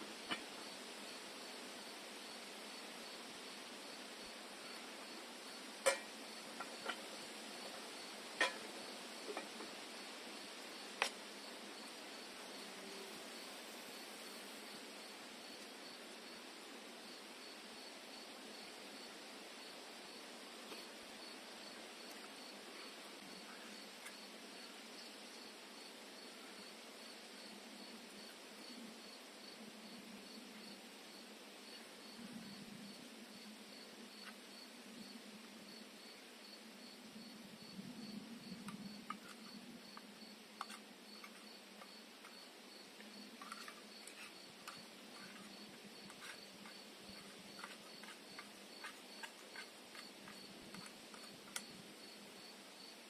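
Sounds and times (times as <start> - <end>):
cricket chirping: 3.8 - 16.4, 17.0 - 53.0.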